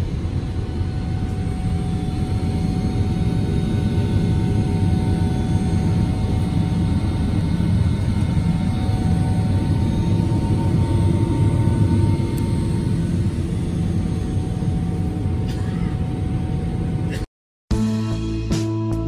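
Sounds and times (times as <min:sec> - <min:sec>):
airplane cabin drone: 0:00.0 - 0:17.9.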